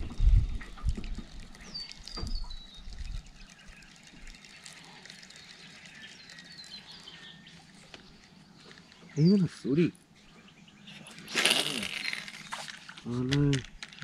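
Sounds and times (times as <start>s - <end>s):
birds whistling: 1.6s - 12.9s.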